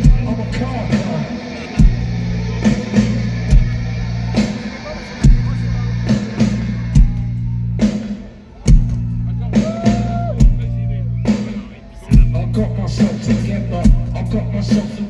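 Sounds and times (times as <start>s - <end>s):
droning bass and guitar: 0.0s - 8.0s, 8.7s - 11.5s, 12.1s - 15.0s
heavy drum hits: 0.0s - 14.4s.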